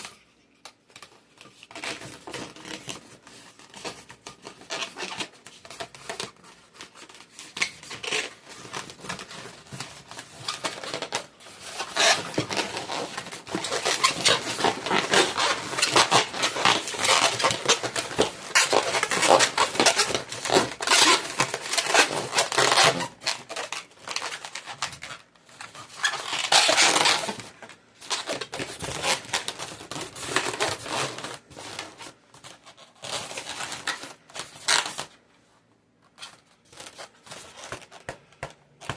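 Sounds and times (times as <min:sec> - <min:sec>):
balloons rubbing and squeaking: 0:01.6 - 0:35.1.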